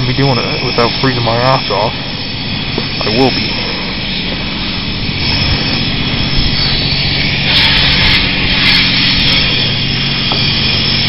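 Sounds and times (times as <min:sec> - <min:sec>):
car wash equipment humming: 0:00.0 - 0:11.0
water hissing: 0:00.0 - 0:11.0.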